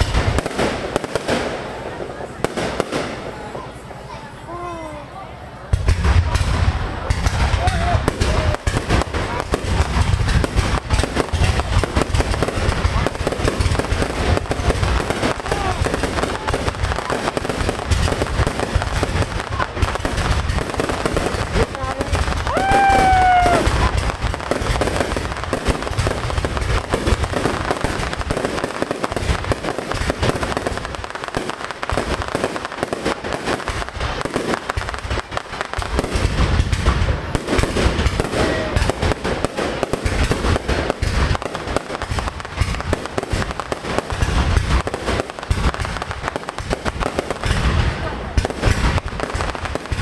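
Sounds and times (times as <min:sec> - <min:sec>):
deep fireworks booms: 0:00.0 - 0:03.9, 0:05.6 - 0:50.0
fireworks crackling and popping: 0:00.0 - 0:05.0, 0:05.6 - 0:50.0.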